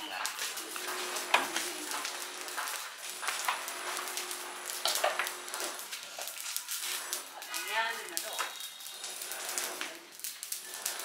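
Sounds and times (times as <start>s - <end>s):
burning rubbish crackling: 0.0s - 11.0s
steady hiss: 0.0s - 11.0s
sharp cracks: 0.3s - 11.0s.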